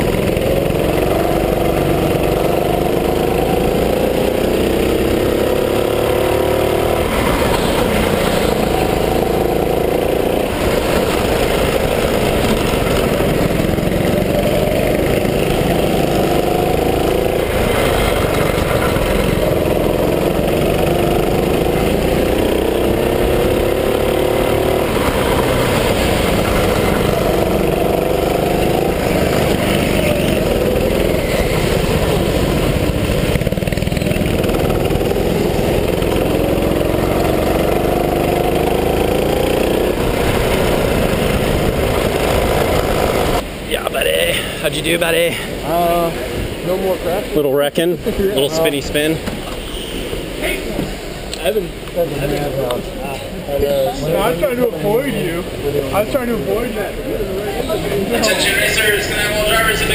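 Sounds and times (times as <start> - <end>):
go-kart engine accelerating: 0.0 - 43.7, 53.6 - 59.9.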